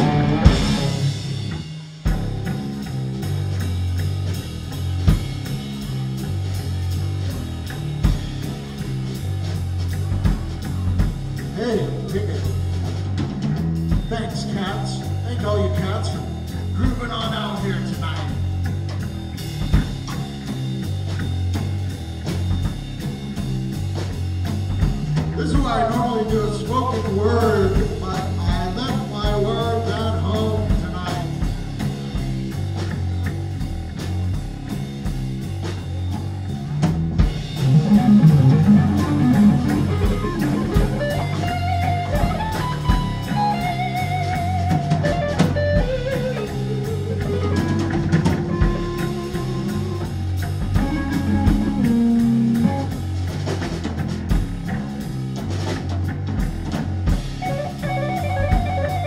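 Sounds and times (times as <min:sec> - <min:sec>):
drum kit: 0:00.0 - 0:59.0
guitar: 0:00.0 - 0:59.0
live band music: 0:00.0 - 0:59.0.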